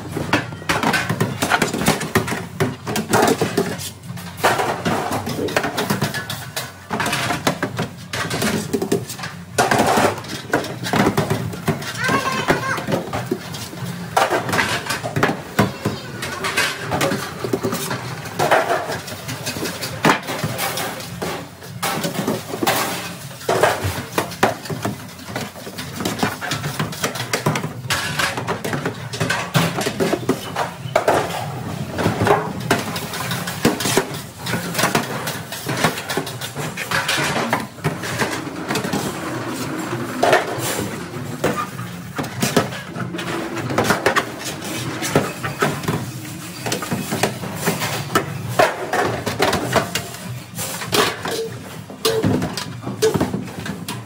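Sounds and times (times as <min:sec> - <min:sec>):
metal pans clanking and scraping: 0:00.0 - 0:54.0.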